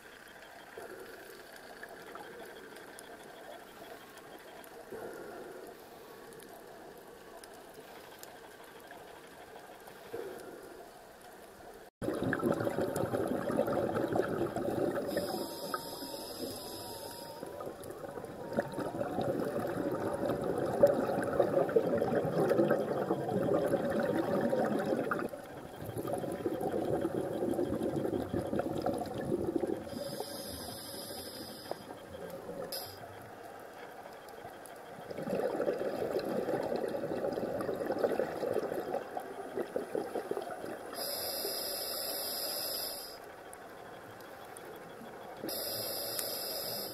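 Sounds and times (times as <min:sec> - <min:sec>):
muffled underwater rushing water: 0:00.0 - 0:46.9.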